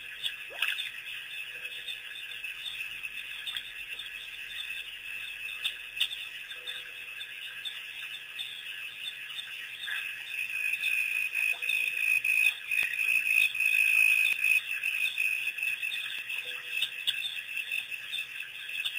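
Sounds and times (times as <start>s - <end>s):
high-pitched chirping chorus: 0.0s - 18.9s.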